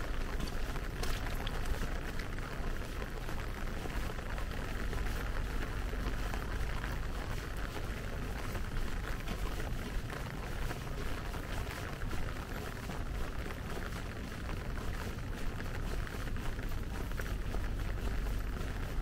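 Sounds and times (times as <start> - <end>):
low steady rumble: 0.0 - 19.0
steady rain pattering: 0.0 - 19.0.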